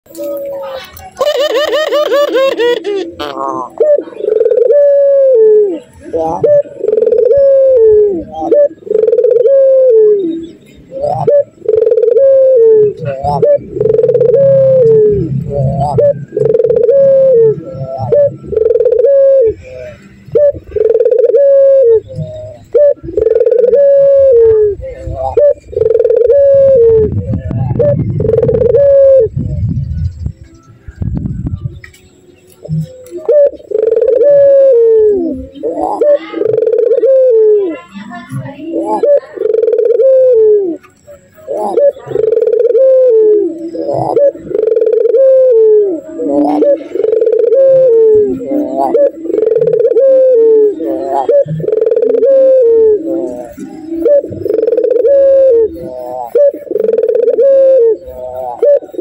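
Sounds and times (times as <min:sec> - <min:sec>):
dove cooing: 0:00.1 - 0:30.2, 0:32.6 - 0:59.0.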